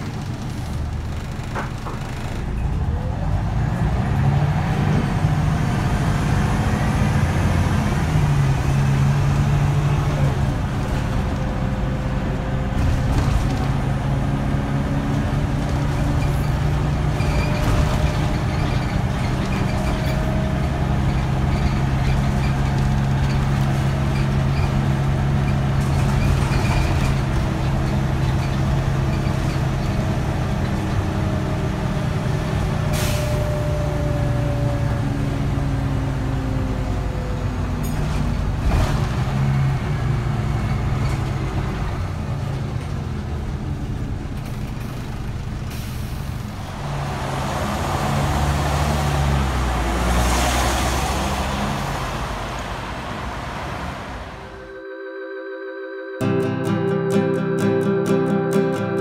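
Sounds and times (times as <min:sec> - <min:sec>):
road rumble: 0:00.0 - 0:54.8
bus diesel engine droning: 0:00.0 - 0:59.0.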